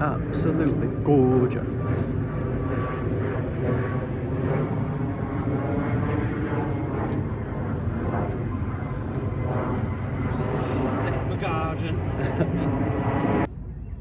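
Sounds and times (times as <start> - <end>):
aircraft rumbling overhead: 0.0 - 14.0.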